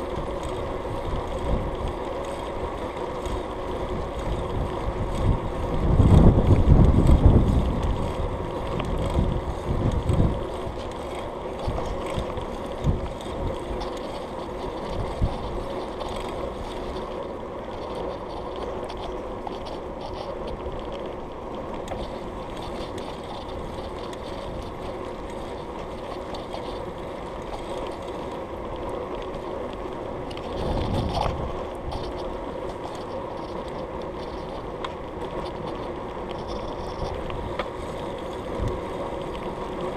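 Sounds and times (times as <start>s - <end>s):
bicycle tyres humming on tarmac: 0.0s - 39.9s
wind buffeting microphone: 0.0s - 39.9s.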